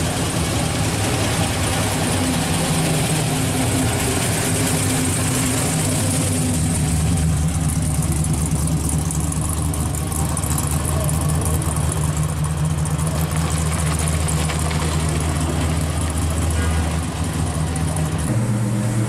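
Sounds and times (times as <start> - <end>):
car engine rolling past: 0.0 - 19.0.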